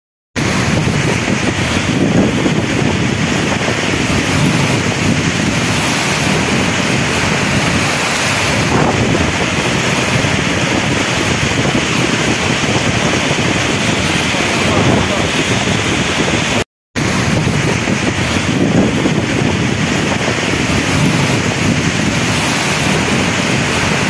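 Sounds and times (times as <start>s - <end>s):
heavy rain: 0.4s - 24.0s
wind buffeting microphone: 0.4s - 24.0s.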